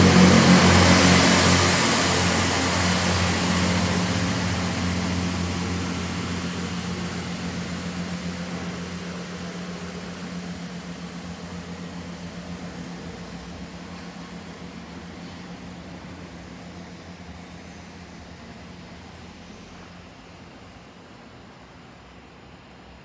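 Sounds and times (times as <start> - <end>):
train engine drone: 0.0 - 23.0
wheels hissing on rails: 0.0 - 23.0.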